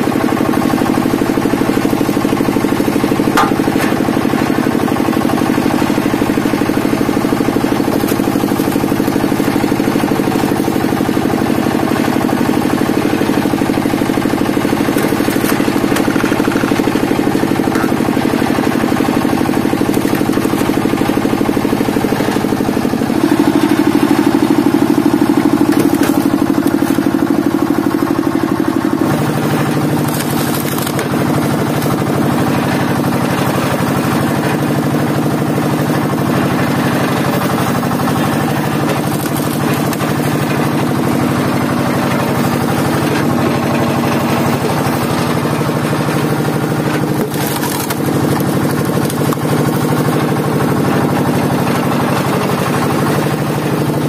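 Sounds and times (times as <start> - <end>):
engine pulsing steadily: 0.0 - 54.0.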